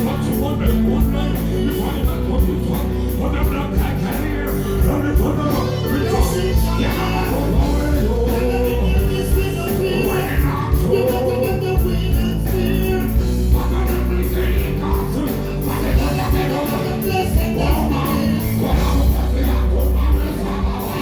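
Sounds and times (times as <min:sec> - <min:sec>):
heavy steady beat: 0:00.0 - 0:21.0
loud music with singing: 0:00.0 - 0:21.0.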